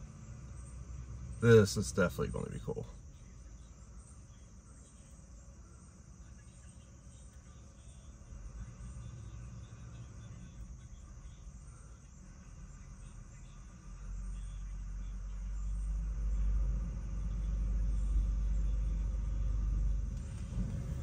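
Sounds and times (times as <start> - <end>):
faint low rumble: 0.0 - 21.0
high-pitched insect chorus: 0.0 - 21.0.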